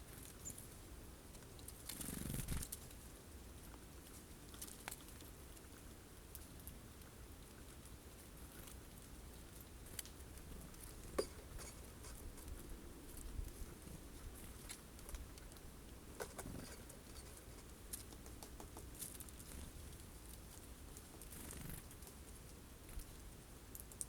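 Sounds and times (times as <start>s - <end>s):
birds pecking at seeds: 0.0s - 24.0s.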